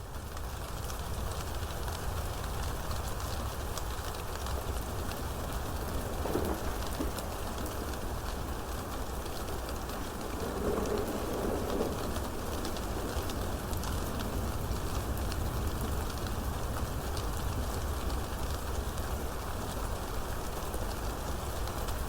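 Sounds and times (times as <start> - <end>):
steady rain falling: 0.0 - 22.0
constant low rumble: 0.7 - 19.2.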